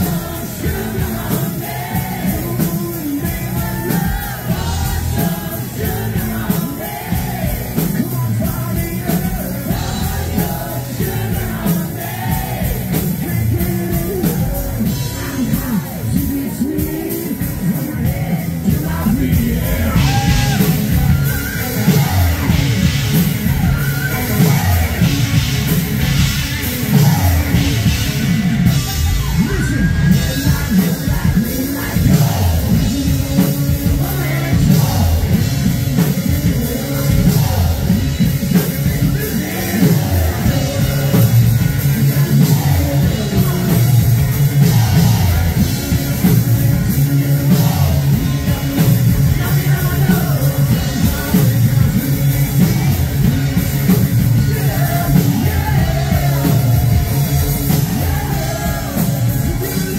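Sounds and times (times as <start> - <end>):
bass guitar: 0.0 - 59.9
drum kit: 0.0 - 59.9
electric guitars: 0.0 - 59.9
man singing: 0.0 - 59.9.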